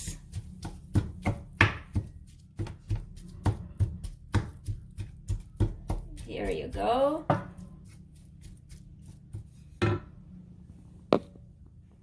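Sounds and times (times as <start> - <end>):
knife chopping on cutting board: 0.1 - 10.0.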